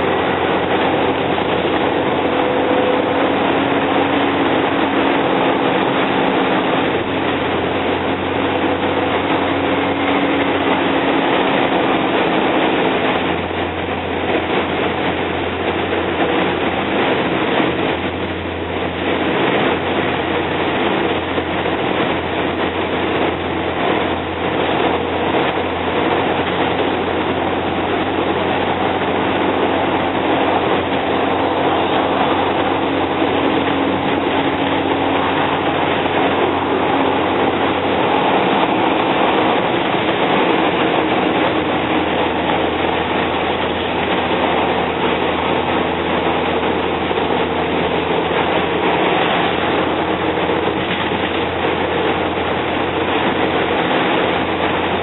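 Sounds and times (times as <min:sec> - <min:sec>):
bus diesel engine drone: 0:00.0 - 0:55.0
low hum: 0:00.0 - 0:55.0.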